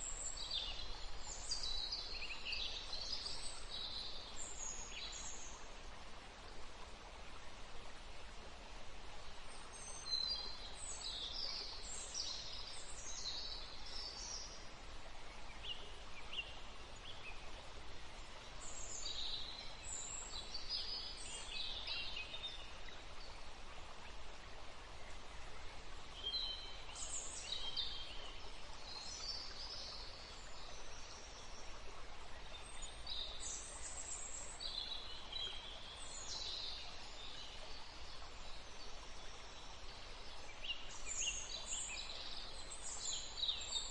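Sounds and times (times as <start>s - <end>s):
steady background hiss: 0.0s - 43.9s.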